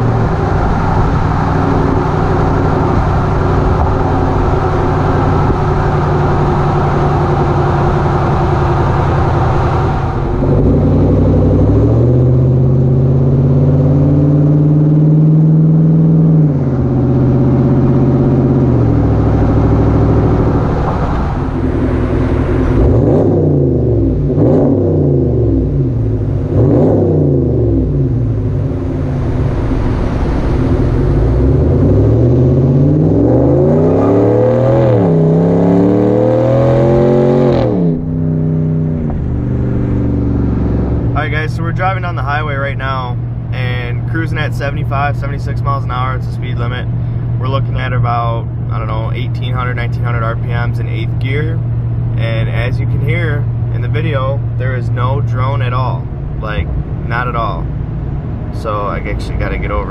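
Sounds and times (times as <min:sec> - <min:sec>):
truck exhaust accelerating: 0:00.0 - 0:59.9.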